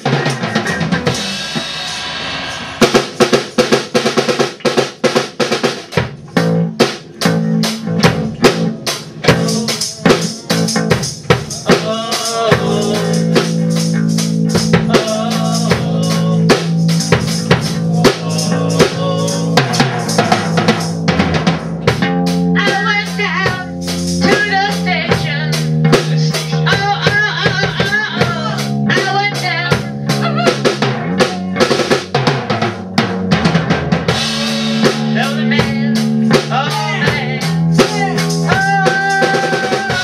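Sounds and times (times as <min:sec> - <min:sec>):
drum kit fast hits: 0:00.0 - 0:40.0.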